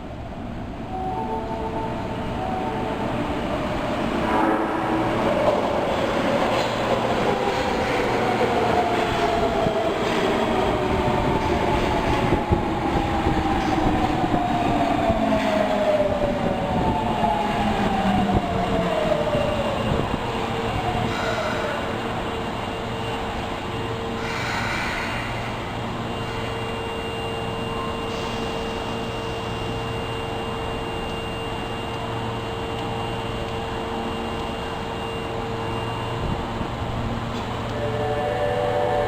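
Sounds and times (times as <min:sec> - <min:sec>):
subway train motor whine: 0:00.0 - 0:39.0.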